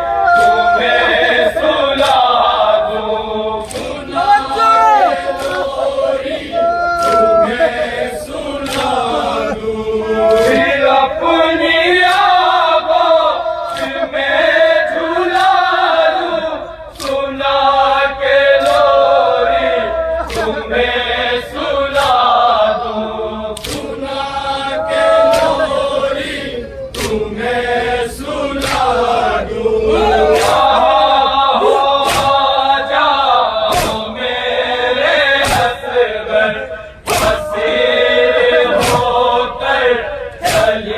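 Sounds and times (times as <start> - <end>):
men chanting in chorus: 0.0 - 40.9
rhythmic sharp strikes: 0.1 - 40.9.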